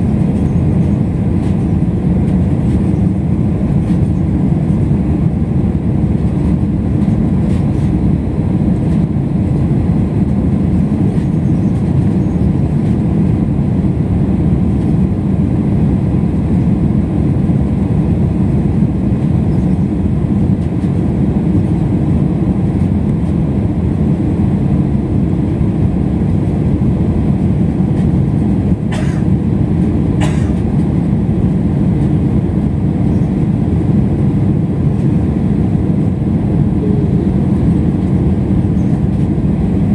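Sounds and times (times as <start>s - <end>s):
jet engine and airflow noise: 0.0s - 39.9s.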